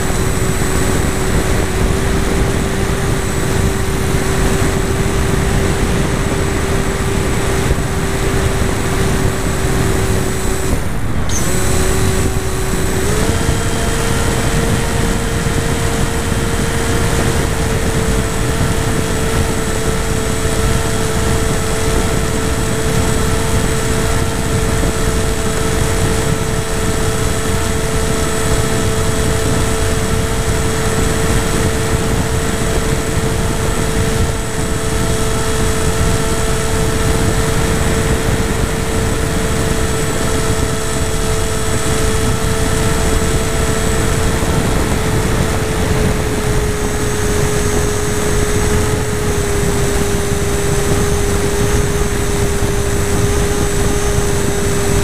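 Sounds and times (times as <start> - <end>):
model airplane motor whine: 0.0 - 55.0
wind rush: 0.0 - 55.0.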